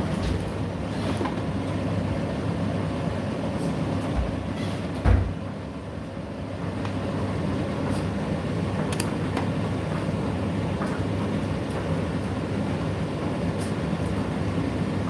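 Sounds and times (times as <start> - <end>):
tumble dryer humming: 0.0 - 15.0.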